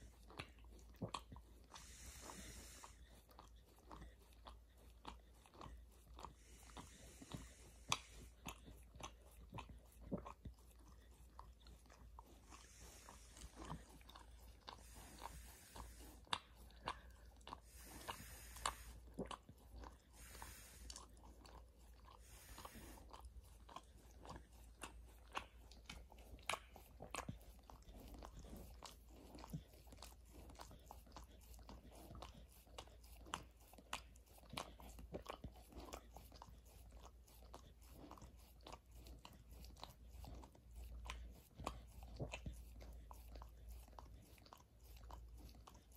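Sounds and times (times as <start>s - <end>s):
dog chewing and crunching: 0.0s - 45.9s.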